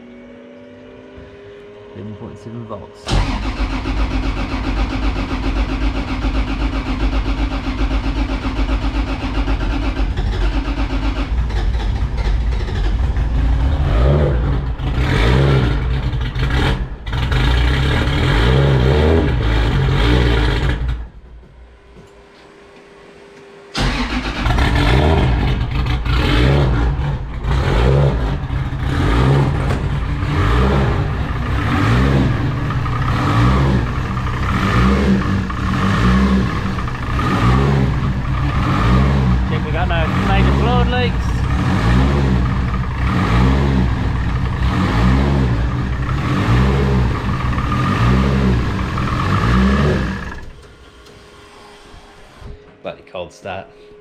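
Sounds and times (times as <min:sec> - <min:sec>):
car engine revving: 0:00.0 - 0:22.0, 0:22.6 - 0:52.5.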